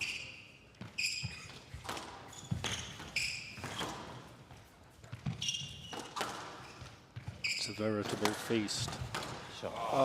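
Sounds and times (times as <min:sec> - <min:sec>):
squash ball hitting rackets and walls: 0:00.0 - 0:09.8
shoes squeaking on court: 0:00.0 - 0:10.0.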